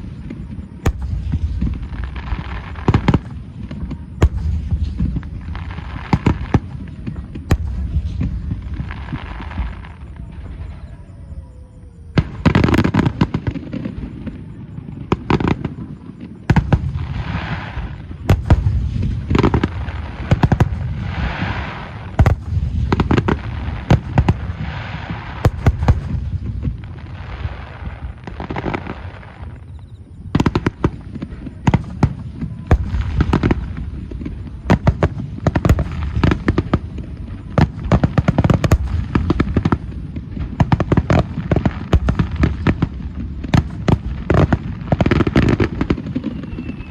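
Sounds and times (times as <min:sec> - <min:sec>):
firework crackling hiss: 0:00.0 - 0:10.8, 0:15.1 - 0:29.7, 0:30.3 - 0:46.9
firework shells booming: 0:00.0 - 0:10.8, 0:15.1 - 0:29.7, 0:30.3 - 0:46.9.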